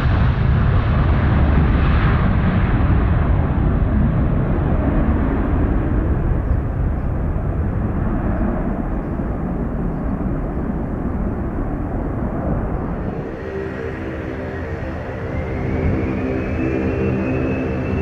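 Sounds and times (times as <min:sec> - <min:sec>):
jet engines roaring at takeoff: 0:00.0 - 0:18.0.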